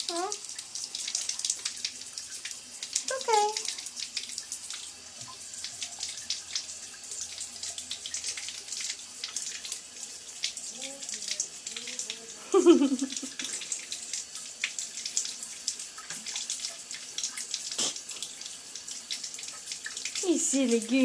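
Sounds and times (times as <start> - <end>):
faucet trickling into tub: 0.0 - 21.0
splashing drips: 0.0 - 21.0.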